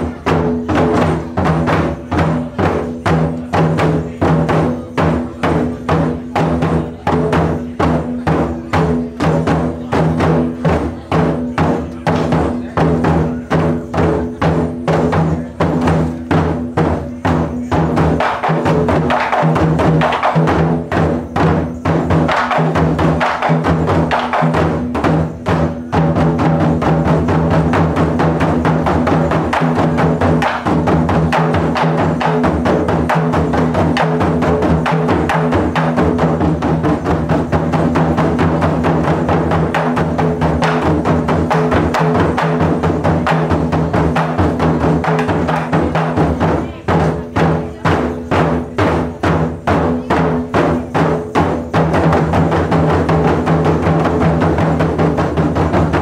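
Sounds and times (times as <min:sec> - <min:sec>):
taiko drums beating: 0:00.0 - 0:56.0.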